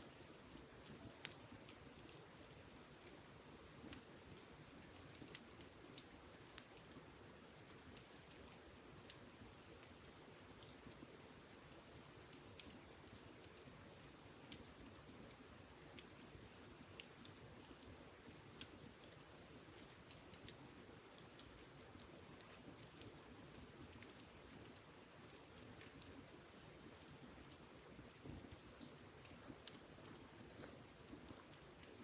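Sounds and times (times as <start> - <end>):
campfire crackling: 0.0 - 32.0
steady background hiss: 0.0 - 32.0.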